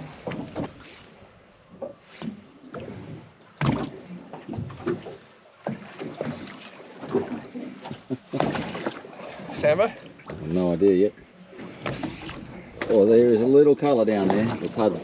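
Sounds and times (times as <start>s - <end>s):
water slapping against boat hull: 0.0s - 1.0s, 1.7s - 15.0s.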